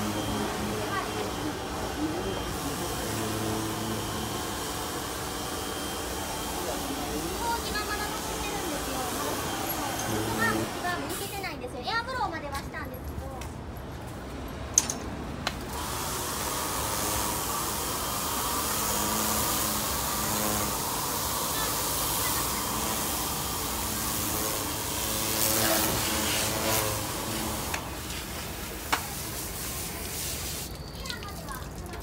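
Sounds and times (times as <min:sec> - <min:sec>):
pressure washer spraying water: 0:00.0 - 0:11.4, 0:15.7 - 0:32.0.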